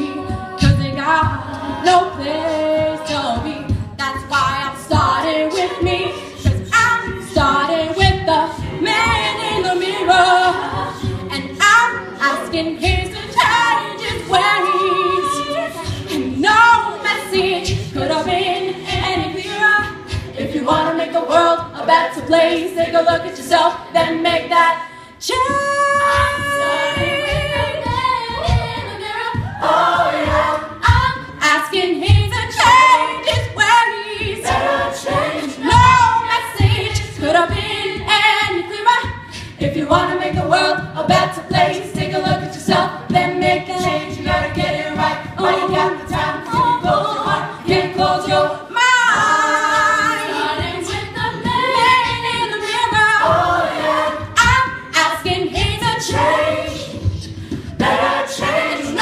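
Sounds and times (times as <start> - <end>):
a cappella group singing: 0.0 - 59.0
steady beat: 0.0 - 59.0.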